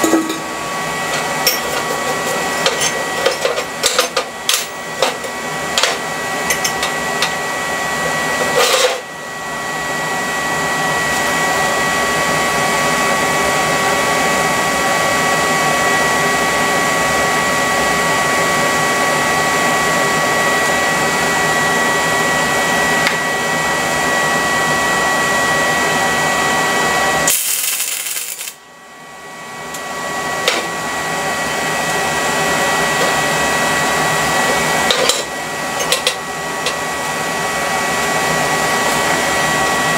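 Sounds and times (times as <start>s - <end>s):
machine whirring with high whine: 0.0s - 39.9s.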